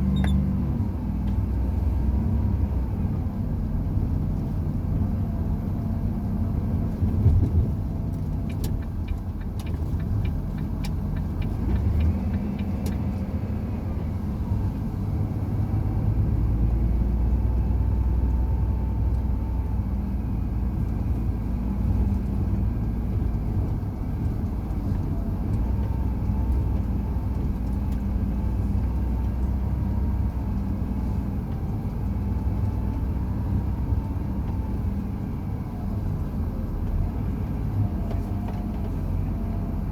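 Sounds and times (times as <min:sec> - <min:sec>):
road rumble: 0:00.0 - 0:39.9
truck engine drone: 0:00.0 - 0:39.9.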